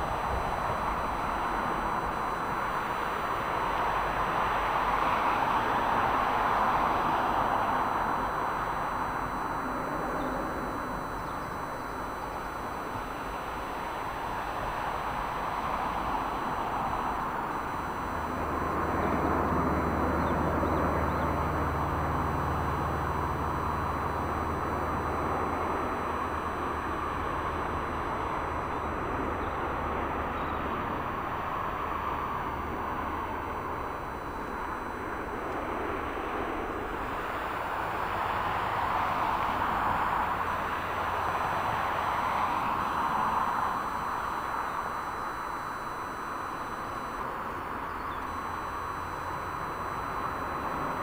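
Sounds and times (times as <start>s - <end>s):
low engine drone: 0.0s - 51.0s.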